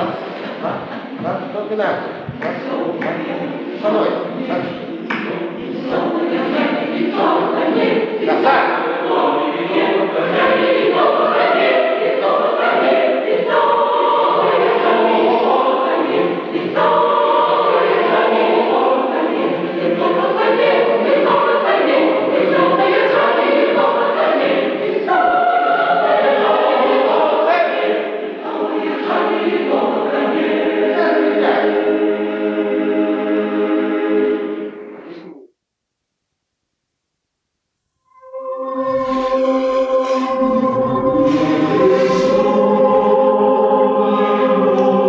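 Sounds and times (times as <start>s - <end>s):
choir singing unaccompanied: 0.0s - 35.3s, 38.1s - 45.0s.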